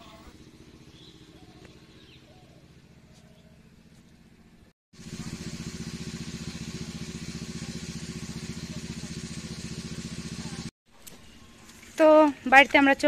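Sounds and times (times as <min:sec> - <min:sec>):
small engine idling: 0:00.0 - 0:10.8.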